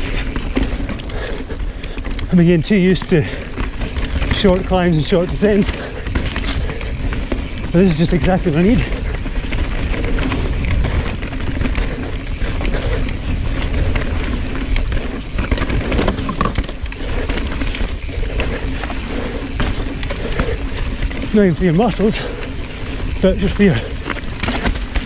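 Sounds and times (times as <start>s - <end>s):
bike knocking and rattling: 0.0s - 25.0s
tyres rumbling over rocks: 0.0s - 25.0s.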